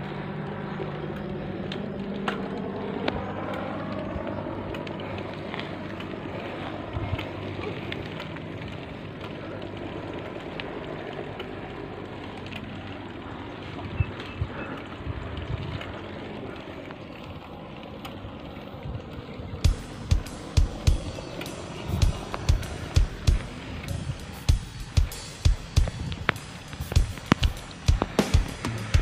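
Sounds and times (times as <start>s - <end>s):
bike clicks and rattles: 0.0s - 29.0s
wind and road noise: 0.0s - 29.0s.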